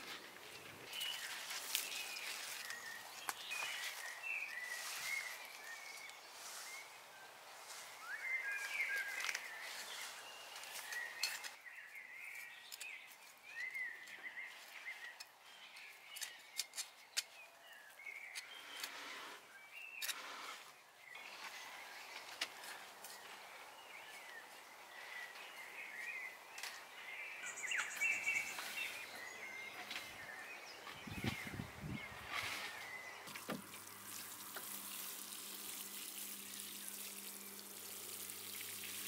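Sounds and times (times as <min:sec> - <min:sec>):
rustling of soil and stalks: 0:00.0 - 0:39.0
small birds chirping: 0:00.0 - 0:39.0.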